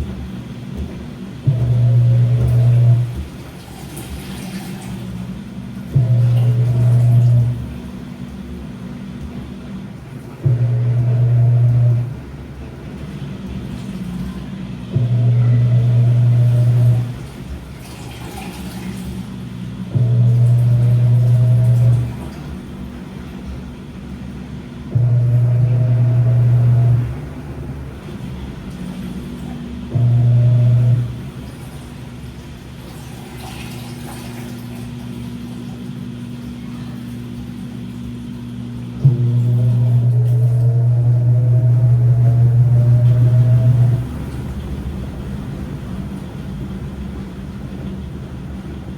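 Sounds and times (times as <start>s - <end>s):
loud low motor hum: 0.0s - 48.9s
washing machine rumble: 0.0s - 48.9s.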